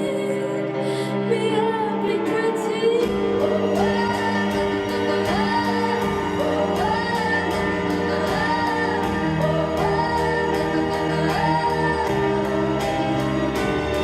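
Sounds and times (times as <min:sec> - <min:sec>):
pop ballad backing track: 0:00.0 - 0:14.0.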